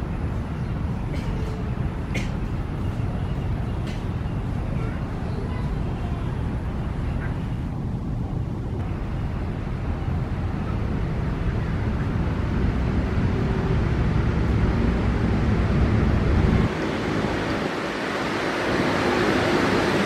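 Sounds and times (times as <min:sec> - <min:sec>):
low background rumble: 0:00.0 - 0:17.9.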